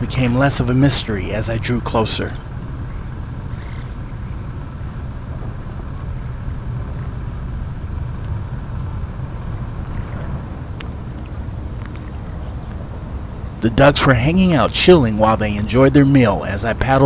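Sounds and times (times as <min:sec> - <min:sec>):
distant highway traffic rumble: 0:00.0 - 0:17.0.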